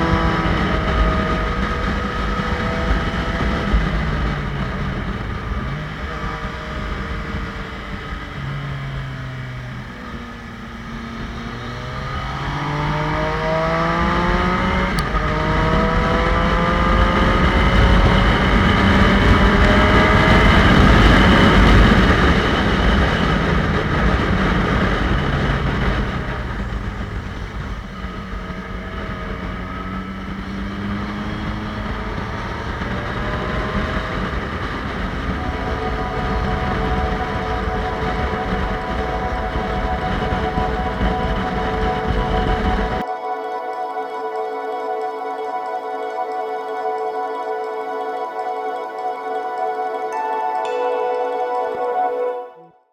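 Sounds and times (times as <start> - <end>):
motorcycle engine accelerating: 0.0 - 43.1.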